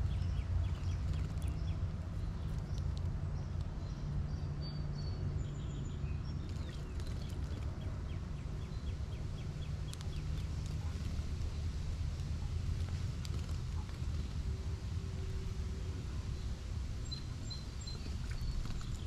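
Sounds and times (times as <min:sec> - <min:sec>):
small birds chipping: 0:00.0 - 0:19.0
steady low rumble: 0:00.0 - 0:19.0.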